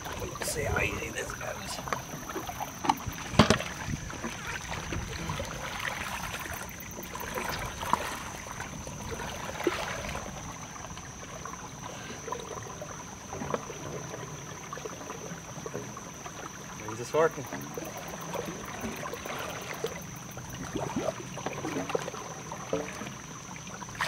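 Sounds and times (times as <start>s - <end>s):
muddy water splashing: 0.0s - 24.0s.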